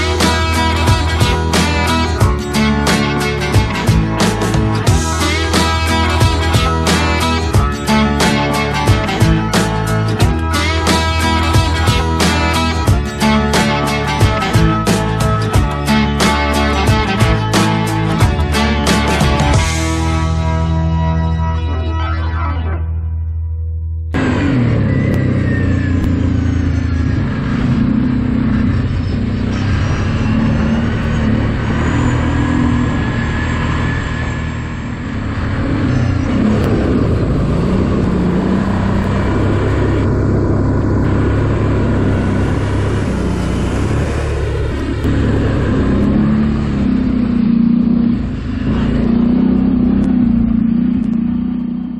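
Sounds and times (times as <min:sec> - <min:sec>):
atv engine revving: 0:00.0 - 0:20.7, 0:24.2 - 0:51.9.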